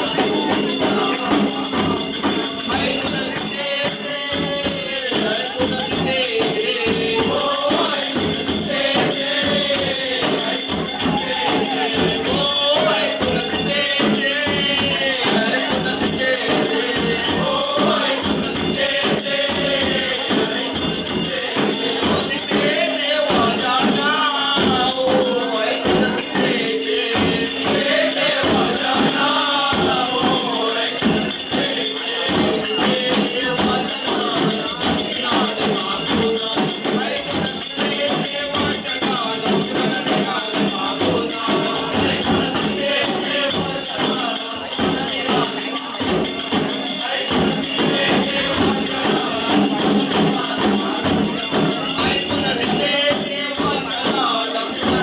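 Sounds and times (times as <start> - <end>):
person singing: 0.0 - 46.0
hand drums beating: 0.0 - 55.0
metal percussion ringing: 0.0 - 55.0.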